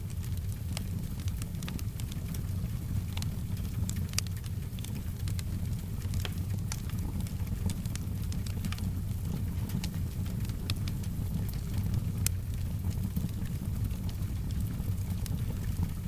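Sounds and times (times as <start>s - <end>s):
soft rain: 0.0s - 16.0s
wood fire crackling: 0.0s - 16.0s.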